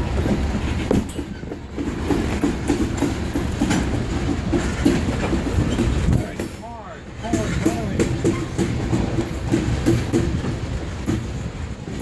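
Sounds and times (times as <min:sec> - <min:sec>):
train wheels rumbling: 0:00.0 - 0:12.0
wheels knocking on rail joints: 0:00.0 - 0:12.0.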